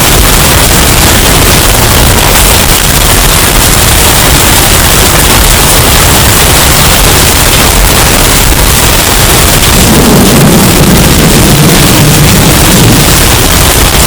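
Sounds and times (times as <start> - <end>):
distorted hurricane wind: 0.0 - 14.0.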